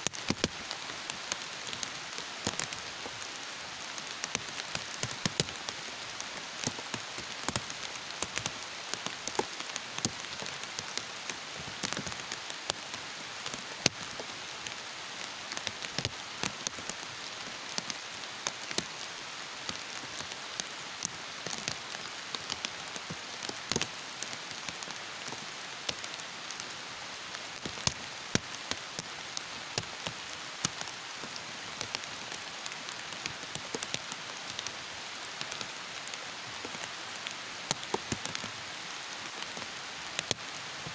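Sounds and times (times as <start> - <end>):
raindrops tapping on a surface: 0.0 - 3.2, 3.9 - 19.0, 19.6 - 26.7, 27.3 - 38.6, 39.2 - 40.9
heavy rain falling: 0.0 - 40.9.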